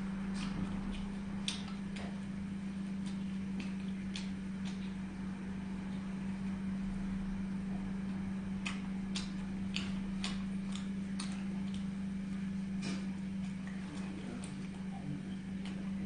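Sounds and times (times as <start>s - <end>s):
steady low hum: 0.0s - 16.0s
chewing mouth clicks and smacks: 0.1s - 6.7s, 7.4s - 16.0s.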